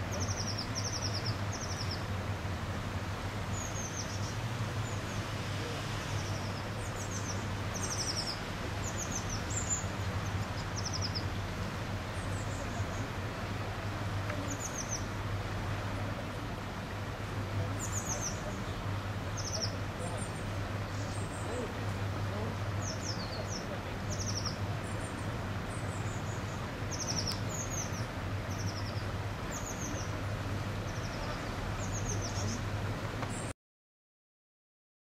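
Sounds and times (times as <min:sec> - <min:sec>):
songbirds chirping: 0:00.0 - 0:33.5.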